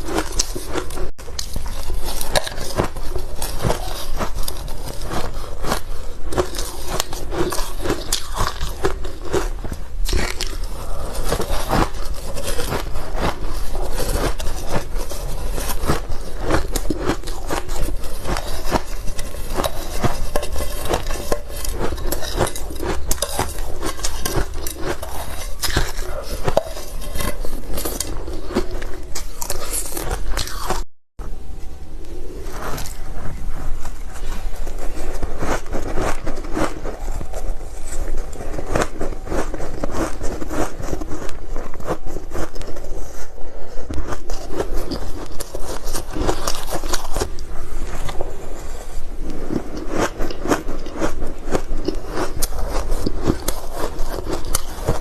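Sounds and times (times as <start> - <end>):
ice crunching in mouth: 0.0 - 30.8, 32.6 - 55.0.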